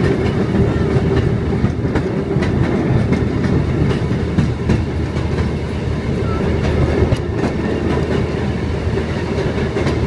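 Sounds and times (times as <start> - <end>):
train rumbling on track: 0.0 - 10.0
wheels clicking on rails: 0.0 - 10.0.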